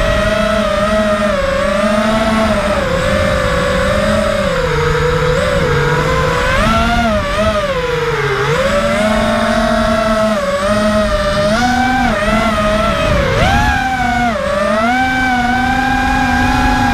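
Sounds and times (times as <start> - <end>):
quadcopter motors whining: 0.0 - 16.9.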